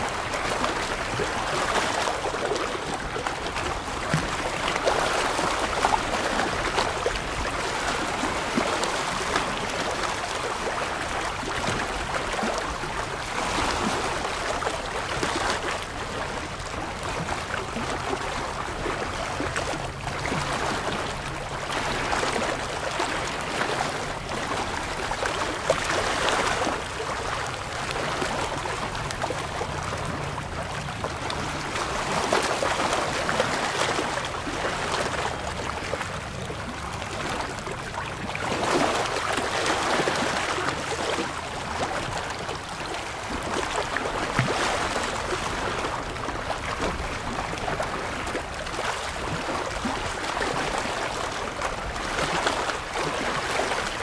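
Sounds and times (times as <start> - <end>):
waves lapping against rocks: 0.0 - 54.0.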